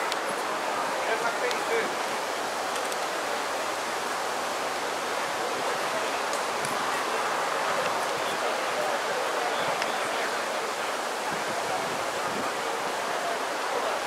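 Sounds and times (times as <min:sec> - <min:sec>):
distant crowd murmur: 0:00.0 - 0:14.0.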